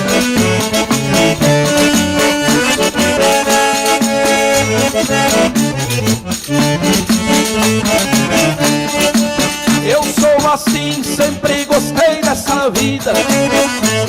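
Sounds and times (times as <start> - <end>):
accordion folk music: 0.0 - 14.0.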